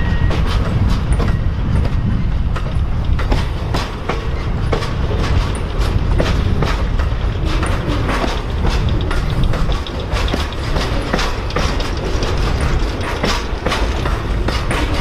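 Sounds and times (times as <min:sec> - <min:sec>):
train rumbling past: 0:00.0 - 0:15.0
wheel clicks and clacks: 0:00.0 - 0:15.0.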